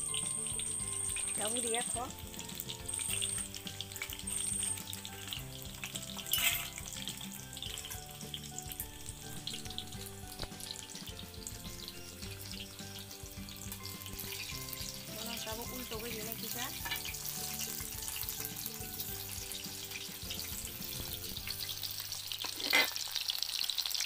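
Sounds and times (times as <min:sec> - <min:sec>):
food deep-frying in oil: 0:00.0 - 0:24.0.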